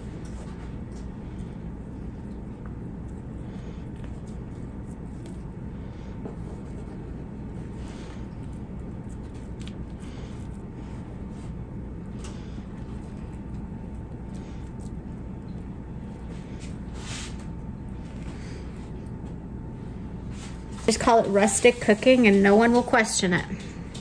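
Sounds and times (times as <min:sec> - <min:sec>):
hands rolling dough: 0:00.0 - 0:19.5
low background hum: 0:00.0 - 0:24.0.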